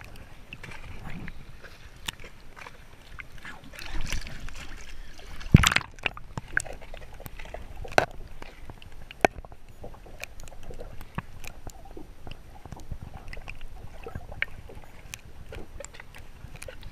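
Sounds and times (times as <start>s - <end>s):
small clicks and drips: 0.0s - 16.9s
water sloshing and splashing: 0.0s - 16.9s.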